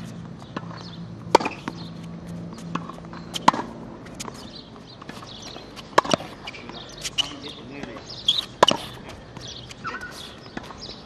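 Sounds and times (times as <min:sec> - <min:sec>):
racket hitting tennis ball: 0:00.0 - 0:10.9
footsteps on hard court: 0:00.0 - 0:11.0.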